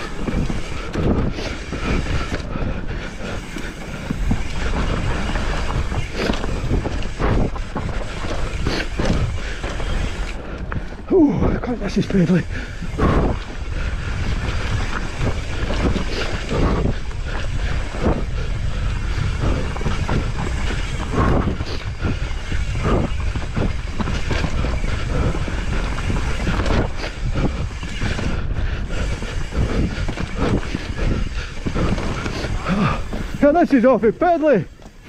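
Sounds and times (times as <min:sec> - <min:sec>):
bike knocks and rattles: 0:00.0 - 0:33.6
tyres rumbling on dirt: 0:00.0 - 0:35.0.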